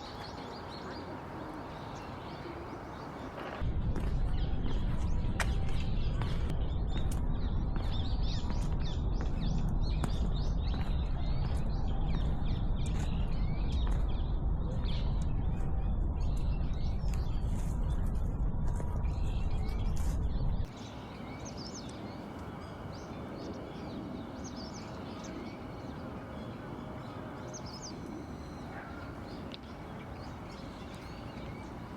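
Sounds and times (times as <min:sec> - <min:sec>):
small birds chirping: 0:00.0 - 0:03.6, 0:04.2 - 0:18.3, 0:19.0 - 0:31.9
steady low rumble: 0:03.6 - 0:31.9.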